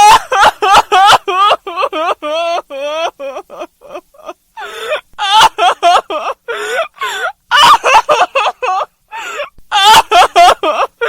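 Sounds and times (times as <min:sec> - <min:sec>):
woman sobbing: 0:00.0 - 0:11.0.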